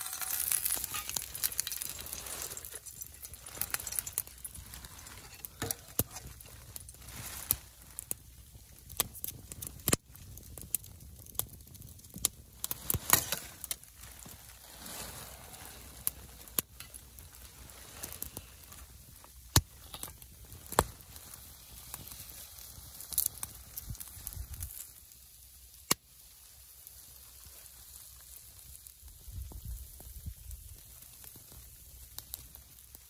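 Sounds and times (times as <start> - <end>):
sharp pops from fire: 0.0 - 33.0
wood fire crackling: 0.0 - 33.0.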